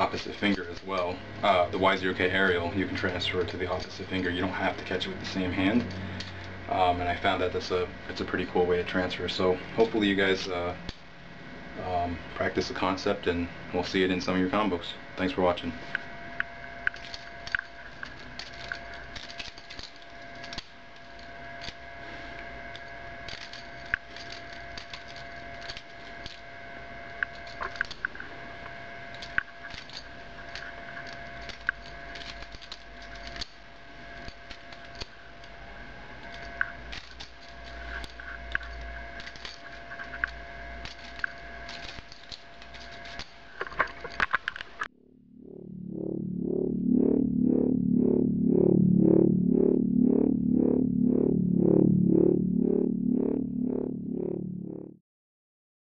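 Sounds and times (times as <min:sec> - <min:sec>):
faint hum: 0:00.0 - 0:55.0.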